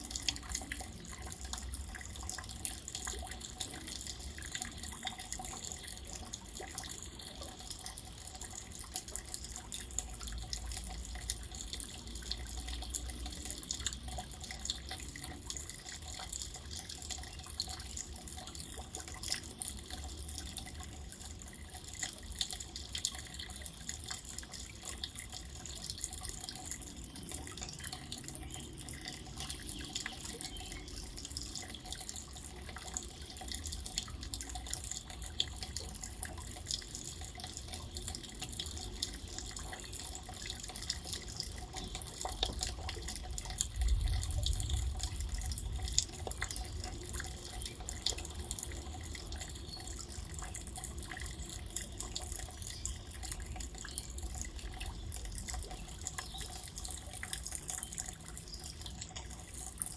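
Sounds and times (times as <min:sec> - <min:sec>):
drops dripping: 0:00.0 - 0:59.9.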